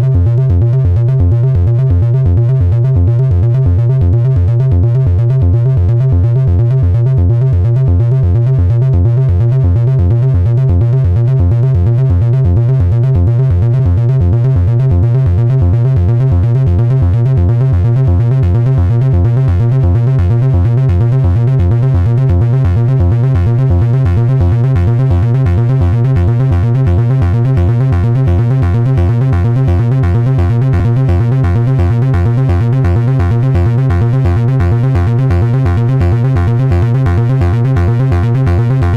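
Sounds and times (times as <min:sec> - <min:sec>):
analog synthesizer bass sequence: 0:00.0 - 0:38.9.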